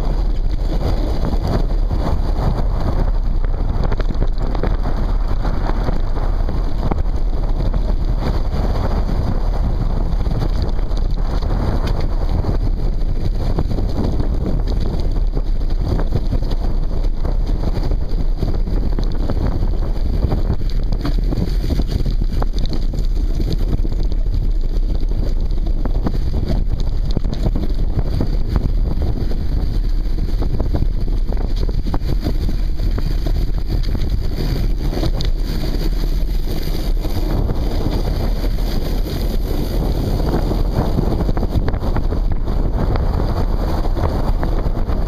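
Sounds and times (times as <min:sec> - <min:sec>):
bike rattles and knocks: 0:00.0 - 0:45.0
wind buffeting microphone: 0:00.0 - 0:45.0.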